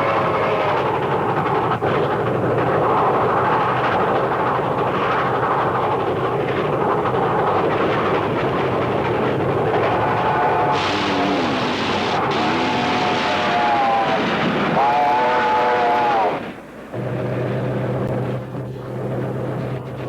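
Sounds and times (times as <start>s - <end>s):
train wheels running on rails: 0.0s - 20.0s.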